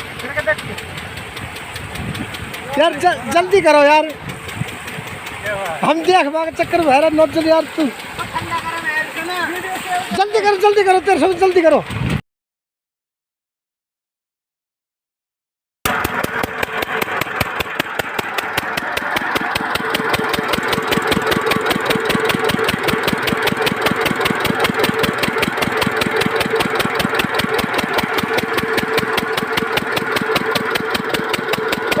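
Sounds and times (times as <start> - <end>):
diesel engine driving water pump: 0.0 - 12.2, 15.9 - 32.0.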